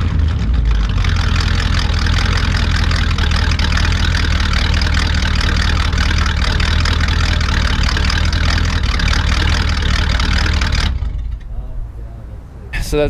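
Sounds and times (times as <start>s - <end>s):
car engine idling loud exhaust: 0.0s - 12.8s.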